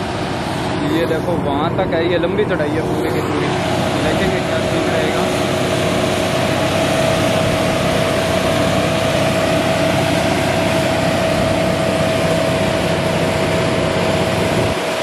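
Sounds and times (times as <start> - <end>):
constant whine: 0.0 - 15.0
truck diesel engines drone: 0.0 - 15.0.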